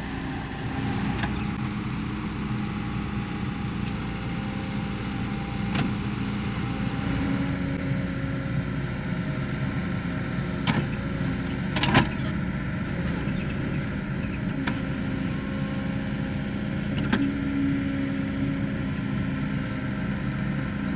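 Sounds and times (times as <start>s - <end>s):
excavator diesel engine running: 0.0s - 20.9s.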